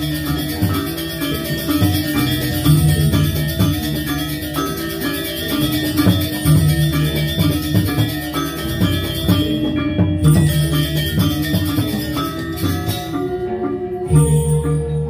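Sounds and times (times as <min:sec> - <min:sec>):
drums: 0:00.0 - 0:15.0
gamelan metallophones and gongs: 0:00.0 - 0:15.0.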